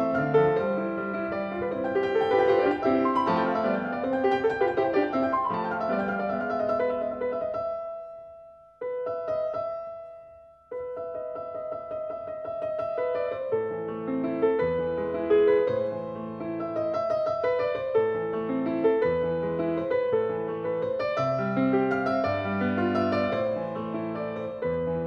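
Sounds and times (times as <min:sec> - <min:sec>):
gentle solo piano: 0:00.0 - 0:25.0.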